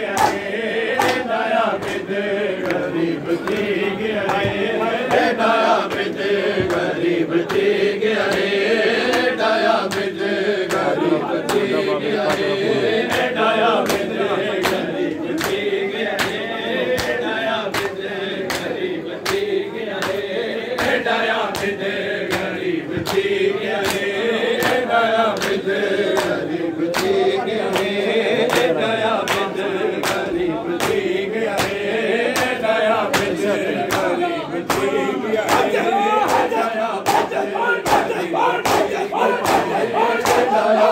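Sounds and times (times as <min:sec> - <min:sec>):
crowd of men chanting: 0:00.0 - 0:40.9.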